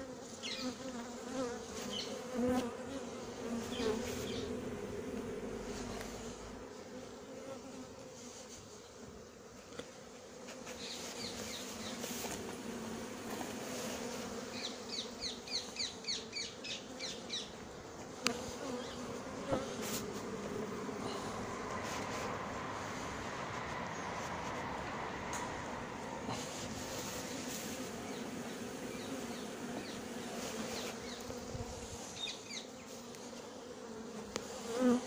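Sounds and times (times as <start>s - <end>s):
honeybees buzzing: 0.0s - 35.0s.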